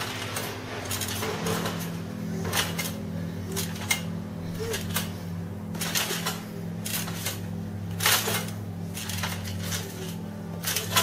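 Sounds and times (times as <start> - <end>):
trampoline springs clattering: 0.0 - 11.0.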